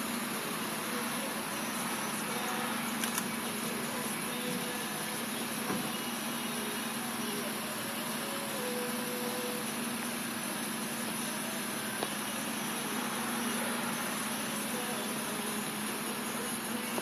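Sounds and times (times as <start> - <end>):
thin high-pitched drone: 0.0 - 17.0.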